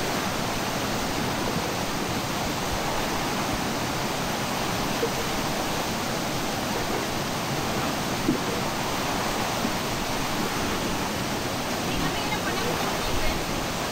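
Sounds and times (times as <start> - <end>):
floodwater rushing over rapids: 0.0 - 13.9.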